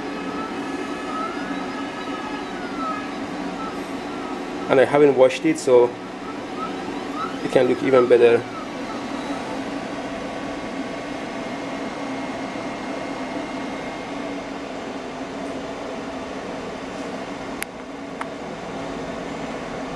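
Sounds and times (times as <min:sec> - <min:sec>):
printer mechanical hum: 0:00.0 - 0:19.9.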